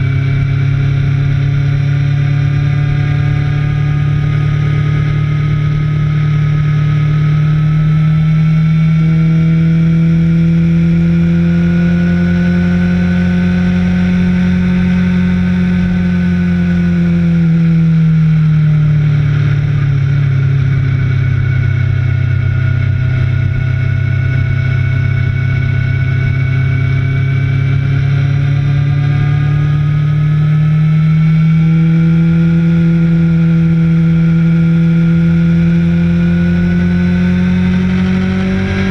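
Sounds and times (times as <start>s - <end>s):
motorcycle engine running hard: 0.0s - 38.9s.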